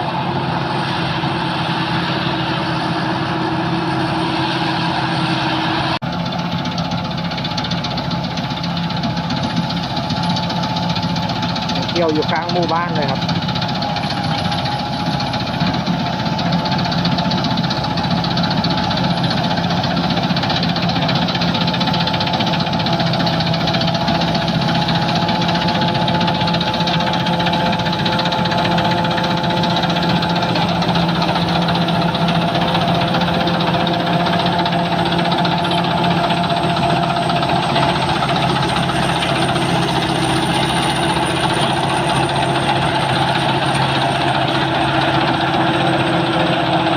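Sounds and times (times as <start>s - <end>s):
combine harvester engine droning: 0.0s - 46.9s.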